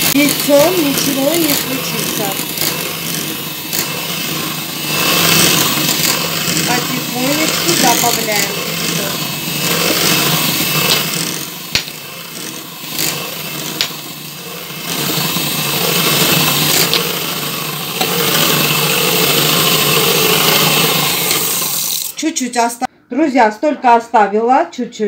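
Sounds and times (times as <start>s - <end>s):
electric hand mixer running: 0.0s - 22.2s.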